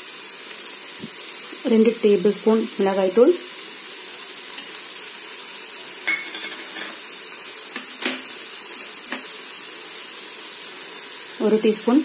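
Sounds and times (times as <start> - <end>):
masala sizzling in a pot: 0.0 - 12.0.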